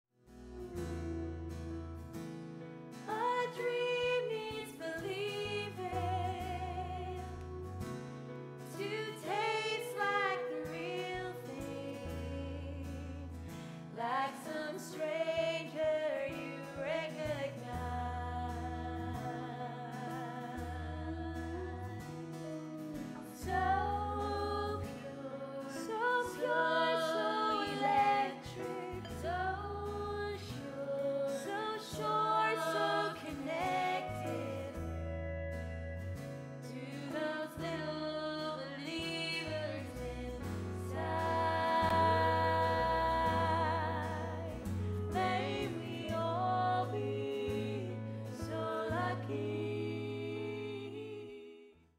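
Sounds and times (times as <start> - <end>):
instrumental accompaniment: 0.2 - 51.3
bass line: 0.2 - 51.4
women singing together: 3.1 - 7.3, 8.7 - 13.2, 13.9 - 22.1, 23.2 - 34.9, 36.6 - 51.6.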